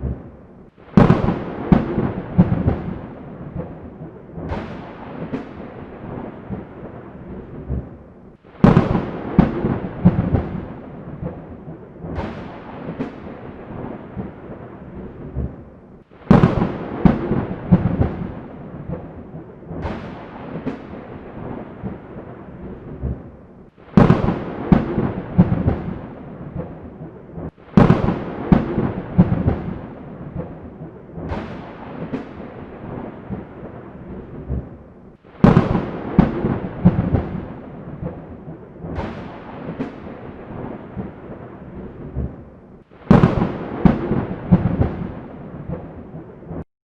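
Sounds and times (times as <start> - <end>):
thunderclaps rolling into rumble: 0.0 - 46.6.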